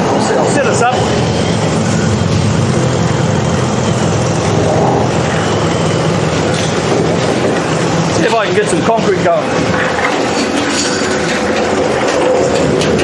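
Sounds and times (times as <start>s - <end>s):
concrete mixer engine drone: 0.0s - 13.0s.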